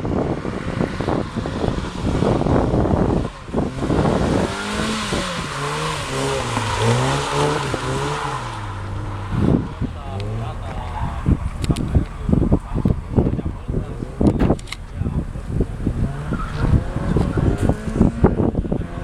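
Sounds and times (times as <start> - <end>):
car engine revving: 0.1 - 19.0.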